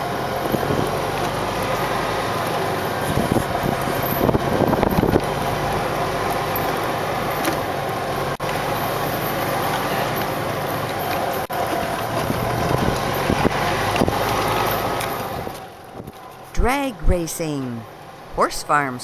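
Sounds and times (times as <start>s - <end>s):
golf cart driving: 0.0s - 19.0s.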